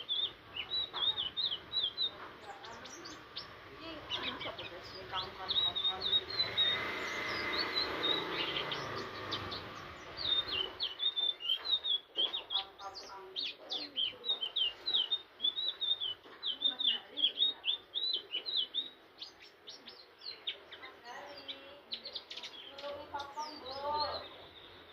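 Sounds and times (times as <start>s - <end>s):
bird twittering song: 0.0s - 24.9s.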